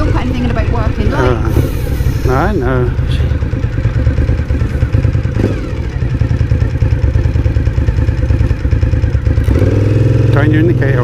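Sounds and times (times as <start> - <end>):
motorcycle engine throbbing: 0.0 - 11.0.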